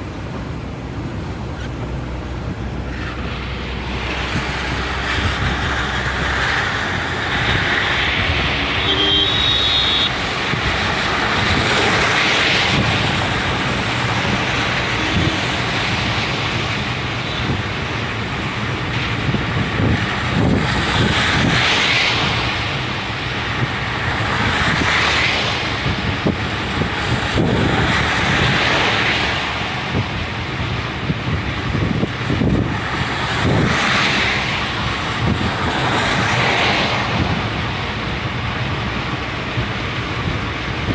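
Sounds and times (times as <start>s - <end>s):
car road and wind noise: 0.0s - 40.9s.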